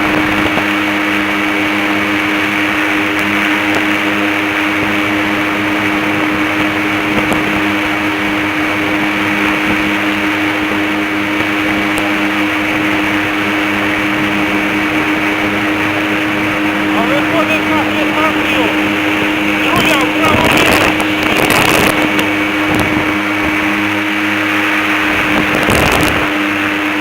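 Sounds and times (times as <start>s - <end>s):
airboat engine droning: 0.0s - 27.0s.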